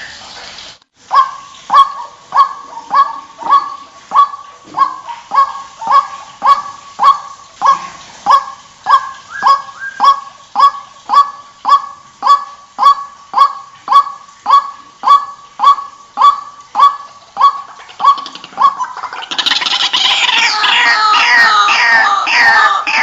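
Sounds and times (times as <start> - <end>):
bird calling sharp notes: 1.1 - 23.0.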